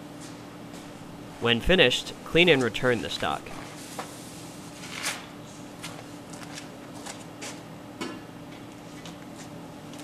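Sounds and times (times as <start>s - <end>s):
low machine-shop hum: 0.0s - 10.0s.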